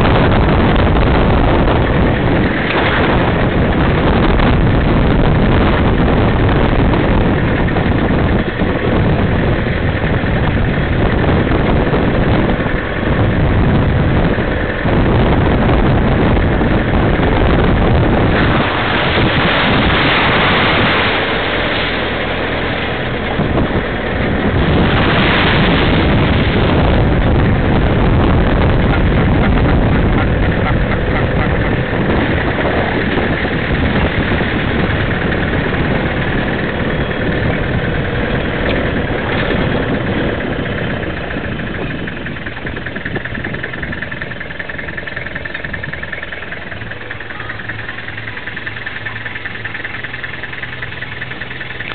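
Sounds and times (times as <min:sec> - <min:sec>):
pickup truck engine rumble: 0:00.0 - 0:51.9
wind buffeting microphone: 0:00.0 - 0:51.9.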